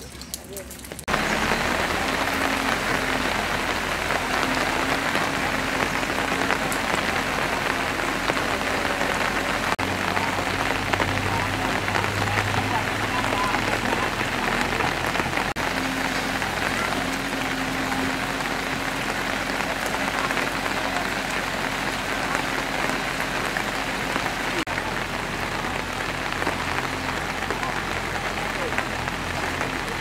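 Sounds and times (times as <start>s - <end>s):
heavy rain on leaves and ground: 0.0s - 30.0s.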